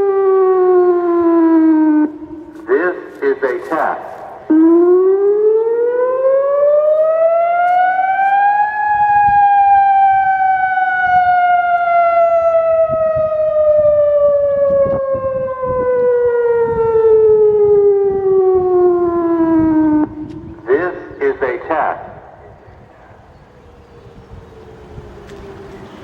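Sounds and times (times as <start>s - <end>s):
electronic warning siren wailing: 0.0s - 26.0s.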